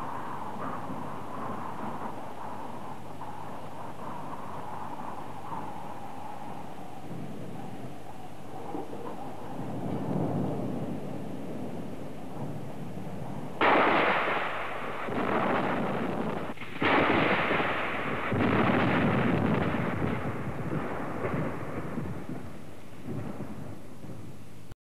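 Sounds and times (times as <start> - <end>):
low storm rumble: 0.0 - 24.8
thunder claps rolling: 0.0 - 24.8.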